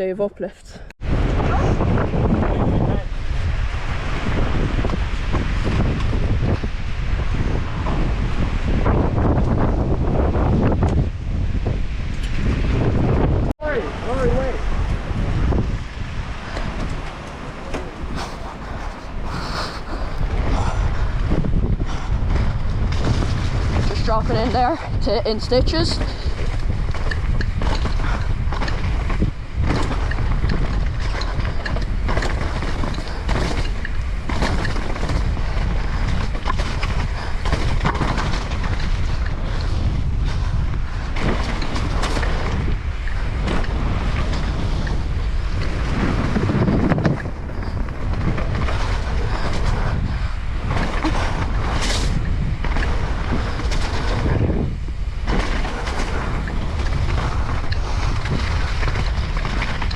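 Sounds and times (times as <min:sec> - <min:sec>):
wind buffeting microphone: 0:00.0 - 0:59.9
bike knocking and rattling: 0:01.2 - 0:59.9.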